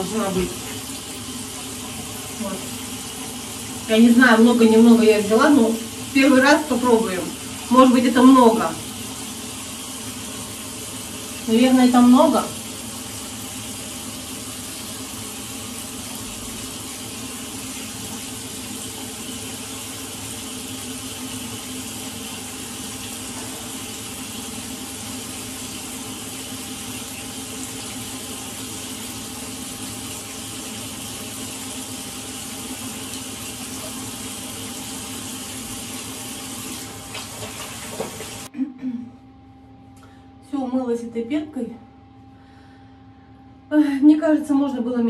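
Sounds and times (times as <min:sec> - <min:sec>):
face washing with foam: 0:00.0 - 0:38.5
tap water running into sink: 0:00.0 - 0:38.5.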